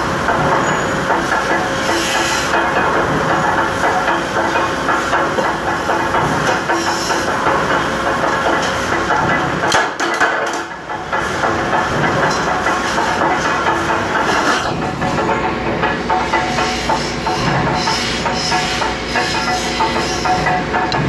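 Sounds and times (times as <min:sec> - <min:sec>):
power press and workshop machinery: 0:00.0 - 0:21.0.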